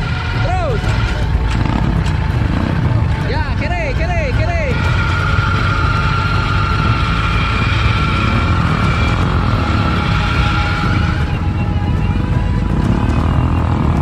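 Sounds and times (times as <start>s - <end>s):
high whine: 0.0s - 14.0s
off-road vehicle engine rumble: 0.0s - 14.0s.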